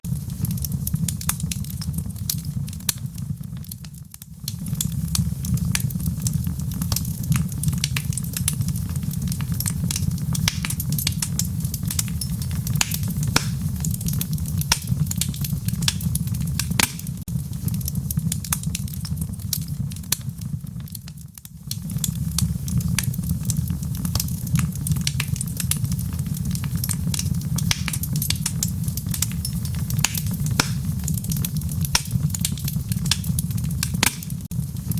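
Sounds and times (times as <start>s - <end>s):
wood fire crackling and popping: 0.0s - 34.9s
low rush of flames: 0.1s - 34.9s.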